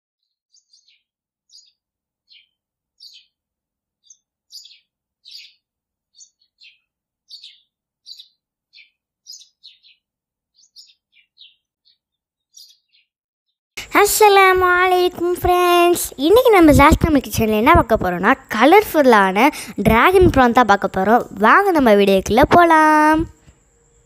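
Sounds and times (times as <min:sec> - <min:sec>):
small bird chirping: 0:00.2 - 0:03.4, 0:04.0 - 0:13.2, 0:14.0 - 0:24.0.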